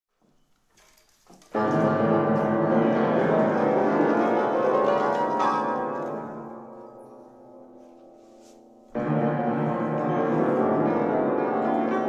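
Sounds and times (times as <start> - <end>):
square piano chords: 1.5 - 12.0.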